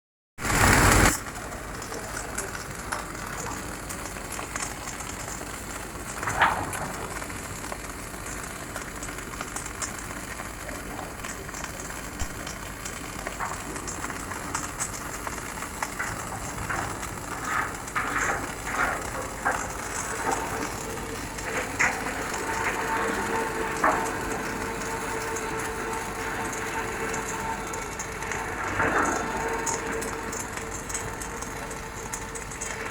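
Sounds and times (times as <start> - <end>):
arc welding hiss: 0.4 - 32.9
welding clicks and pops: 0.4 - 32.9.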